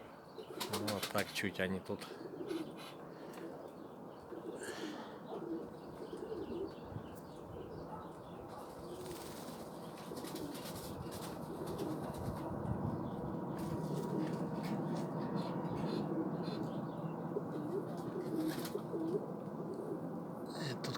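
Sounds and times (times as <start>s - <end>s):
pigeons cooing: 0.0s - 20.9s.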